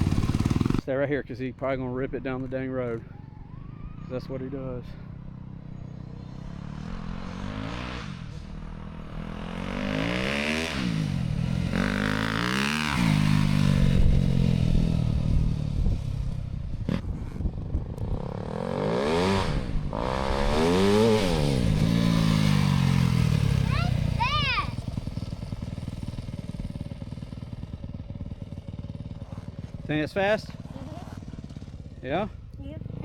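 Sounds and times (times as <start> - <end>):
dirt bike engine revving: 0.0 - 0.8, 4.1 - 33.0.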